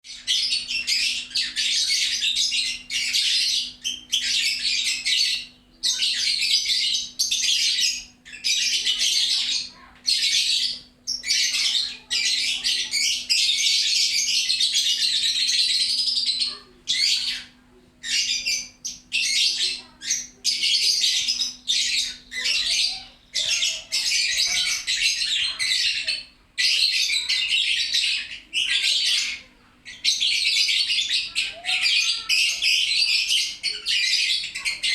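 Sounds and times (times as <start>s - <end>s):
lovebird chattering: 0.1s - 34.9s.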